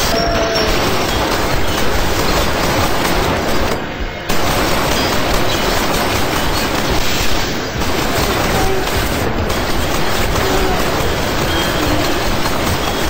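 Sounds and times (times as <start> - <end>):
automatic gunfire: 0.0 - 13.0.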